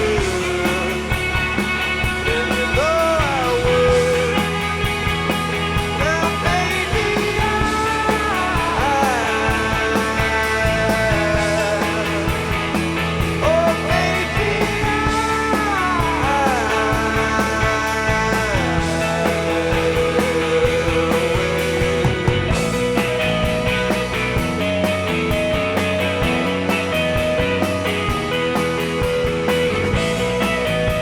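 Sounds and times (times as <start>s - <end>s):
bending lead guitar melody: 0.0s - 31.0s
instrumental rock music: 0.0s - 31.0s.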